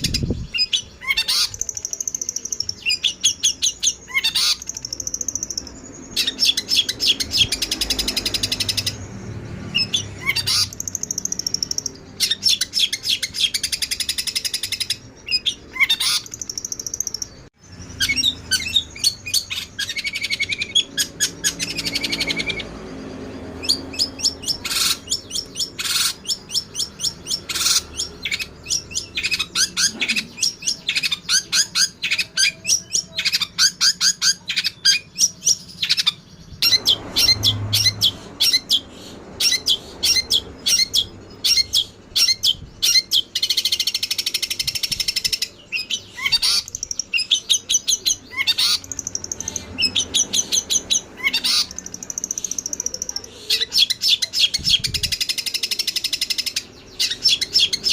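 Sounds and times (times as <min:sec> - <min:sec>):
songbird chirps and trills: 0:00.0 - 0:57.9.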